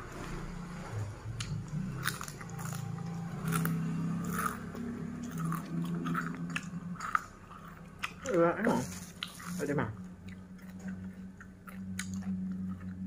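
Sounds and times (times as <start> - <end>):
low steady hum: 0.0 - 13.0
person chewing crunchy food: 1.4 - 13.0.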